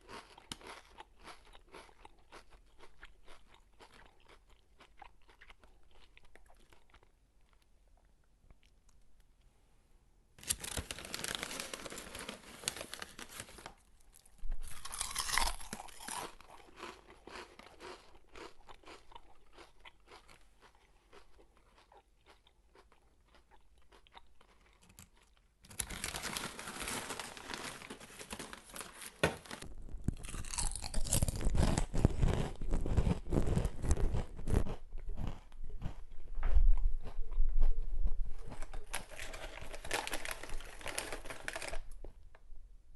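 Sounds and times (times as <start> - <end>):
person crunching chips: 0.0 - 7.7, 10.4 - 36.2, 37.0 - 42.0.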